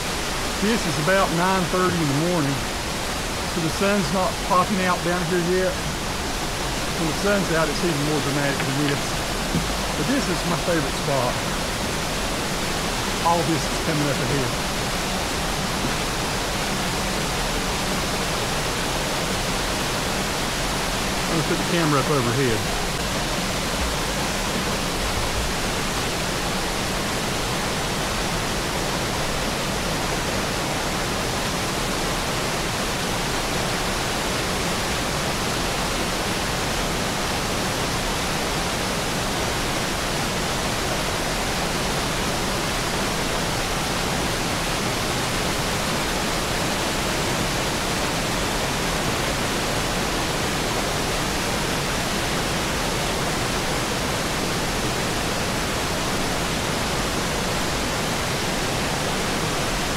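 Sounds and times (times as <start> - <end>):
creek rushing over boulders: 0.0 - 59.9.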